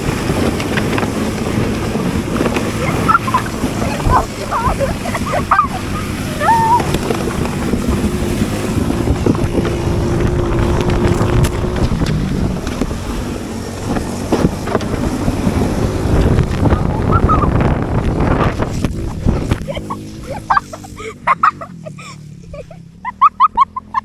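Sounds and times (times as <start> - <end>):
wind buffeting microphone: 0.0 - 22.6
small engine running under load: 0.0 - 24.0.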